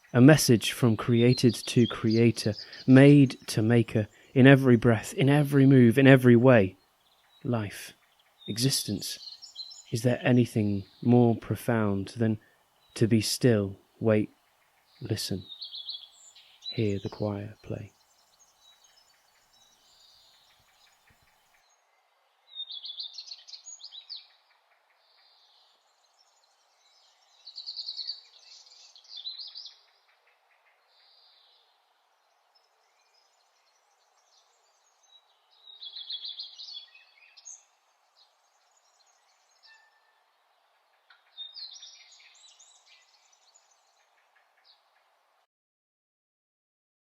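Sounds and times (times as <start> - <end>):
songbirds chirping and trilling: 0.0 - 45.4
low background hiss: 0.0 - 45.5.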